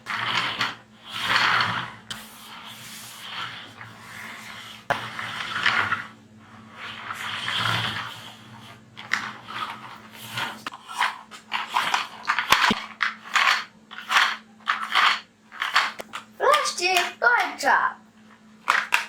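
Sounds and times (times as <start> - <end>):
toy truck scraping on a surface: 0.0 - 16.0.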